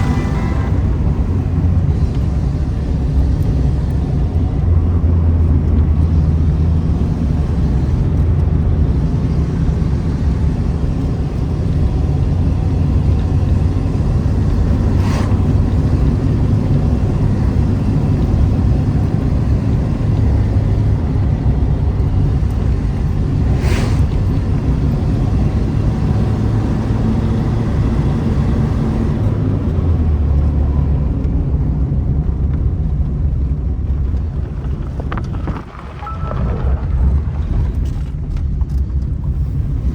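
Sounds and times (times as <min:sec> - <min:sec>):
car exhaust rumble: 0:00.0 - 0:39.9.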